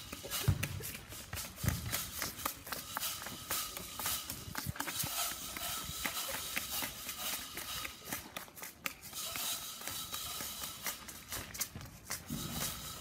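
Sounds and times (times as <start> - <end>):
footsteps on asphalt: 0.0 - 13.0
steady hiss: 0.0 - 13.0.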